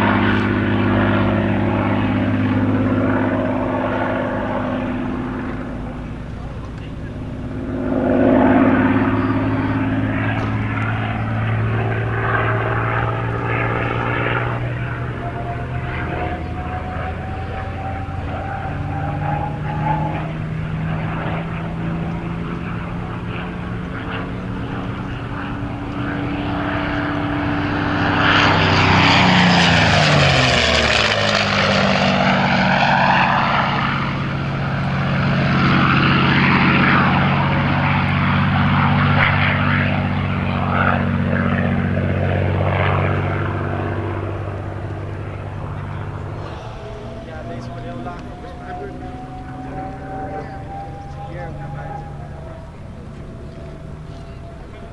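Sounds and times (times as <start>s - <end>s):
propeller plane passing low: 0.0s - 54.9s.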